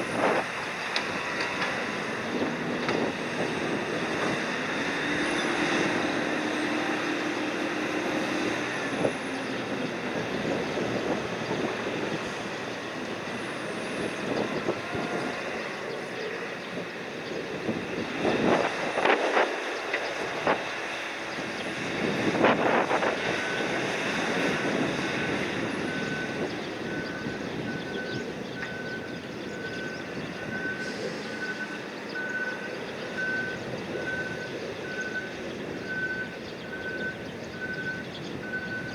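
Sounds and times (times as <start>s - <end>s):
engines and machinery running: 0.0s - 38.9s.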